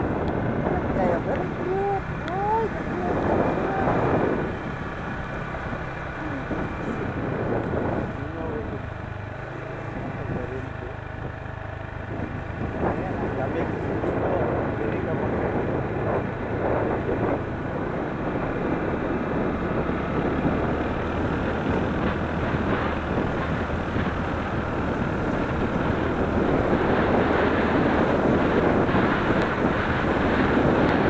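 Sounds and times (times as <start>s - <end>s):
low engine hum: 0.0s - 31.0s
wind and road noise: 0.0s - 31.0s.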